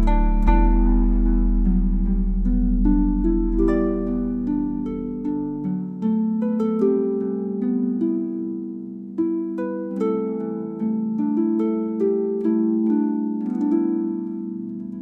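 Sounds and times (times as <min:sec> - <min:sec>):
guzheng plucked melody: 0:00.0 - 0:15.0.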